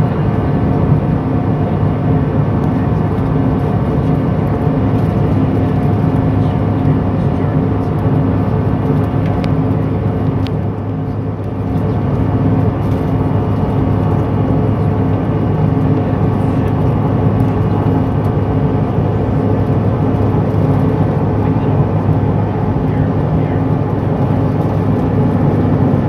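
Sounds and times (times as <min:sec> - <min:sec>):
jet engine cabin noise: 0:00.0 - 0:26.0.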